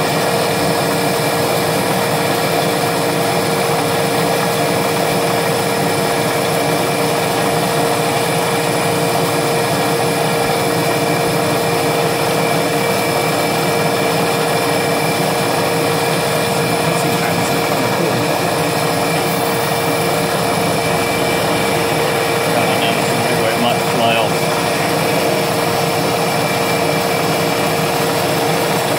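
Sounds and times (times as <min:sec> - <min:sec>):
milling machine spindle whine: 0:00.0 - 0:28.9.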